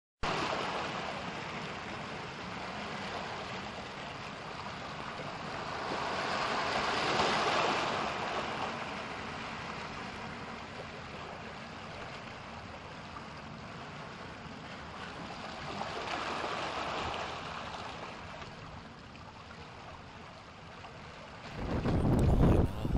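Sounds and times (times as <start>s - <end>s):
surf washing on beach: 0.2s - 18.9s, 21.2s - 22.9s
steady breeze: 0.3s - 22.9s.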